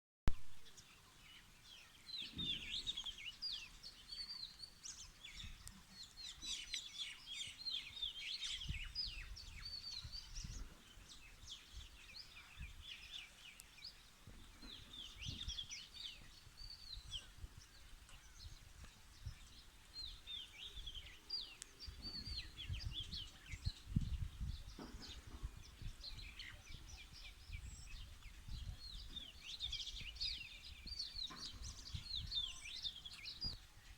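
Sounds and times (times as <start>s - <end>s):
small birds chirping: 0.5s - 33.9s.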